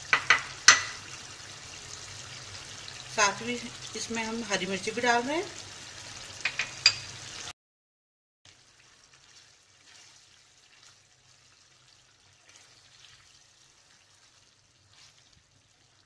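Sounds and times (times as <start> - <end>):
meat curry sizzling in oil: 0.0 - 7.5, 8.5 - 16.0.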